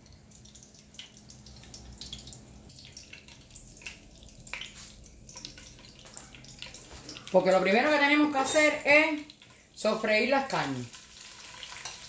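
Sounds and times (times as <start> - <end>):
lard crackling in a pot: 0.0 - 12.0.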